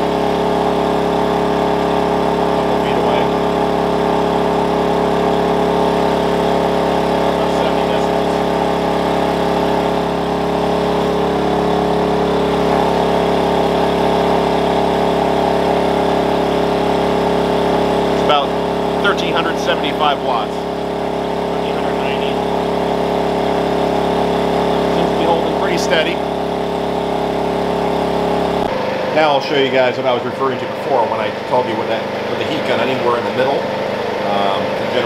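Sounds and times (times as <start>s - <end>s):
generator running: 0.0s - 35.0s.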